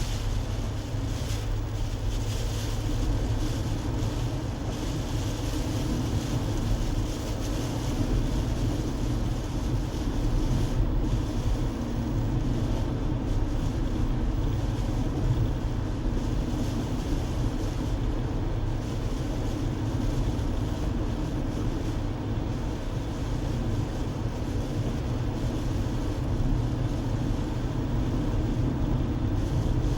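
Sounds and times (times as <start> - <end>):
car driving rumble: 0.0 - 29.9
wind-like hiss: 0.0 - 29.9.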